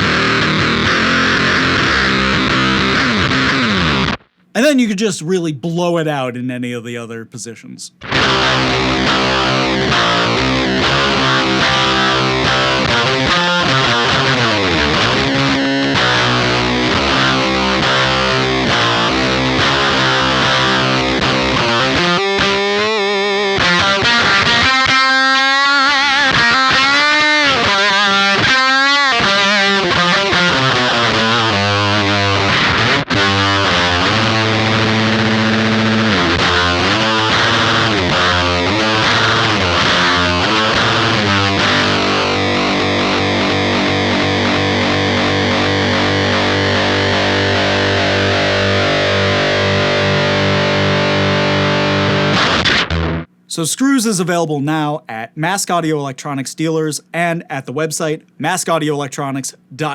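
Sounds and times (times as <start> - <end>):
heavily distorted electric guitar: 0.0 - 4.8, 8.0 - 53.4.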